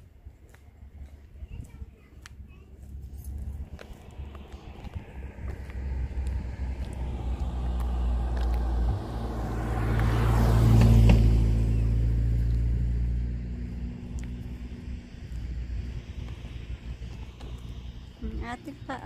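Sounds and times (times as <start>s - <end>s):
motor vehicle passing by: 0.5s - 19.0s.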